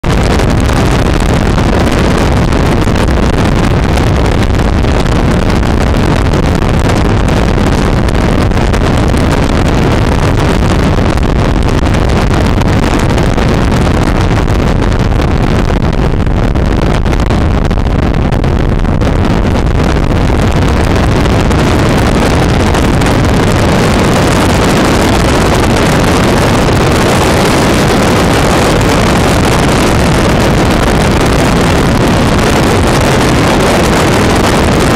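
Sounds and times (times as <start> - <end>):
wind noise on microphone: 0.0 - 34.9.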